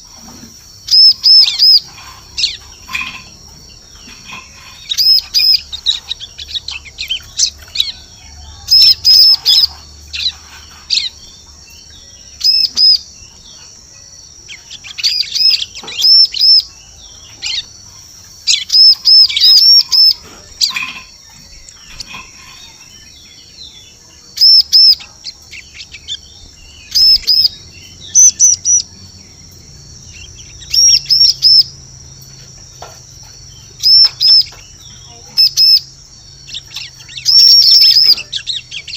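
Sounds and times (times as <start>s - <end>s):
bird chirping high: 0.0s - 38.9s.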